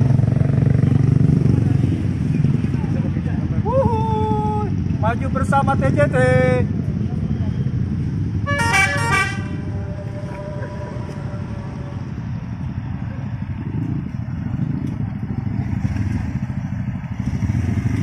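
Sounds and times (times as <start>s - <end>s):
motorcycles idling: 0.0s - 18.0s.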